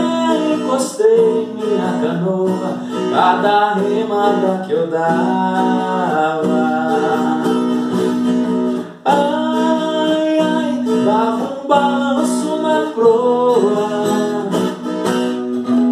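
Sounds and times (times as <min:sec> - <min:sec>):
folk guitar strummed and picked: 0:00.0 - 0:15.9
man singing: 0:00.0 - 0:15.9.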